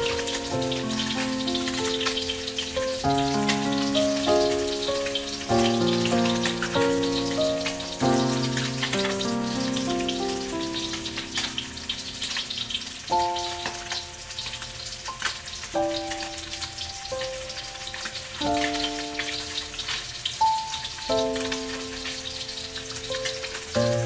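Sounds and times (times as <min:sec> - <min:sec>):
background music of held notes: 0:00.0 - 0:24.0
fish sizzling in oil: 0:00.0 - 0:24.0.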